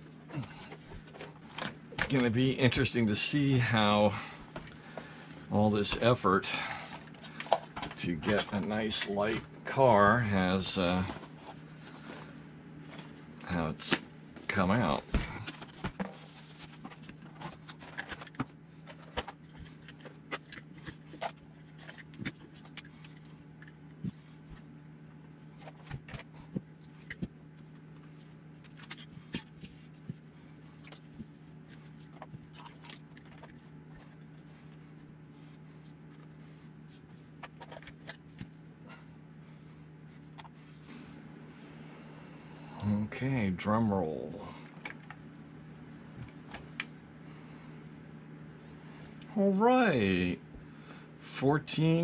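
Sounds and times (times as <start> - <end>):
faint hum: 0.0 - 52.0.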